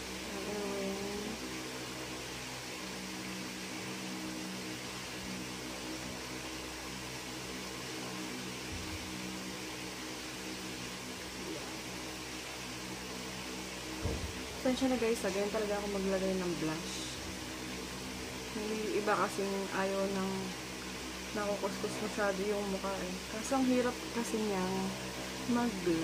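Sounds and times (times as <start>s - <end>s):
electric fan running: 0.0s - 26.0s.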